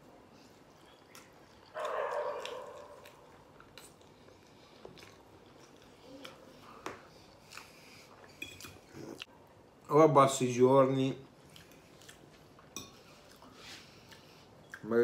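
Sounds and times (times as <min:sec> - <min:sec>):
quiet chewing: 0:00.2 - 0:09.6, 0:11.2 - 0:15.0.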